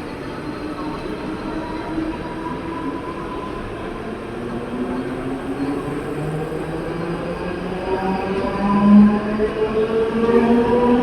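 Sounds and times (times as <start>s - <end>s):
rumble of train coaches: 0.0s - 11.0s.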